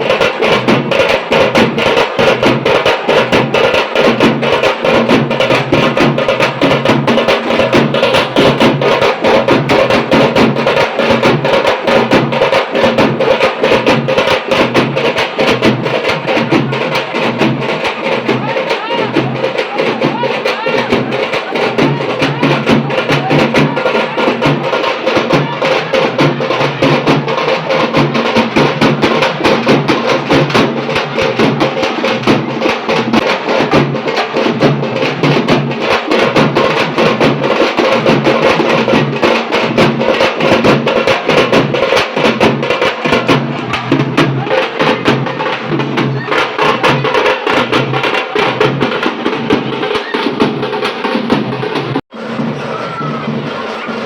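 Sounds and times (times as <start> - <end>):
music with fast dense drumming: 0.0 - 54.0.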